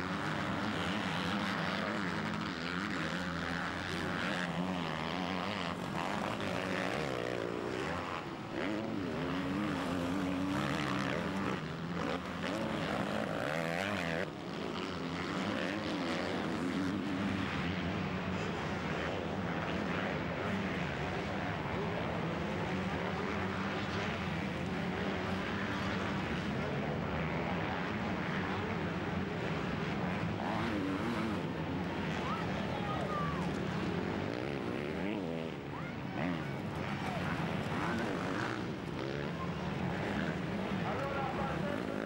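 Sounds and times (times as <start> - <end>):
motorcycle engines racing: 0.0 - 42.0.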